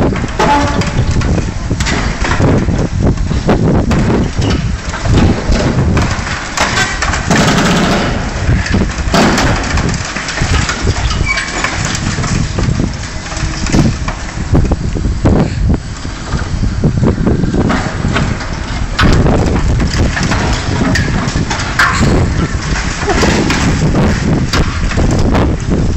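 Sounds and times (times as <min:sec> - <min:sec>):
diesel engine under load: 0:00.0 - 0:25.9
knocks crunches and scraping: 0:00.0 - 0:25.9.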